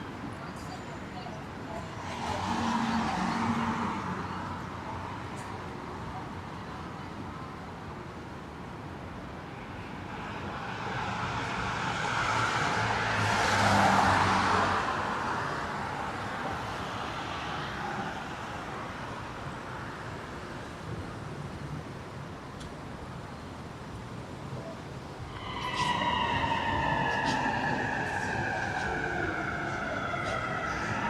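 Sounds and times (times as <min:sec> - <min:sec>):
steady traffic noise: 0:00.0 - 0:31.0.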